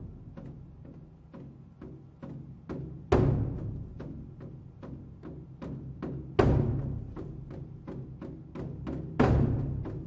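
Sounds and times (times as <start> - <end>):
drum struck with sticks: 0.0 - 10.0.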